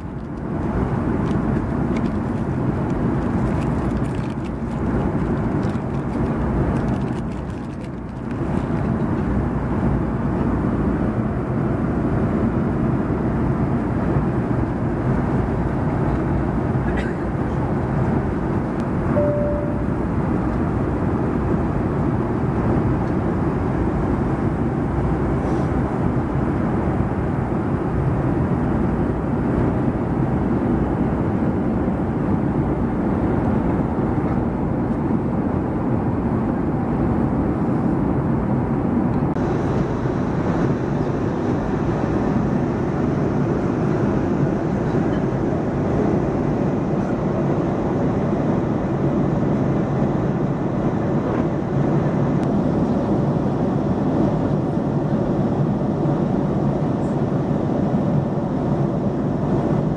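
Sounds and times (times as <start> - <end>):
airplane engines droning in cabin: 0.0 - 59.9.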